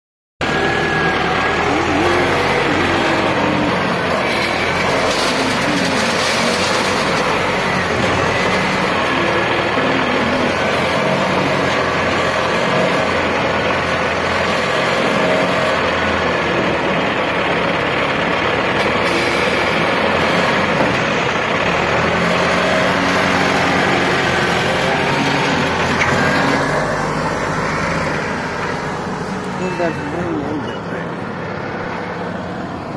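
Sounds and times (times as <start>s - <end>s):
wheel loader diesel engine running: 0.4s - 32.9s.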